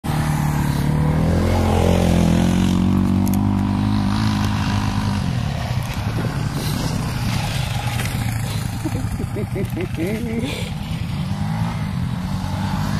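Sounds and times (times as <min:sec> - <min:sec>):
quad bike engine revving: 0:00.1 - 0:12.9.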